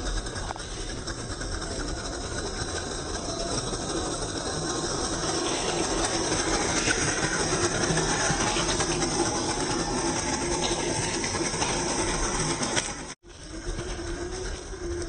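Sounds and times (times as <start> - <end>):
electric motor whirring: 0.0 - 15.0.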